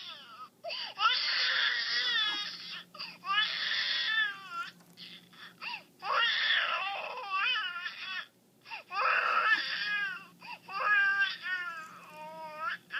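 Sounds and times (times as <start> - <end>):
high-pitched wailing cries: 1.0 - 8.3, 8.9 - 12.9.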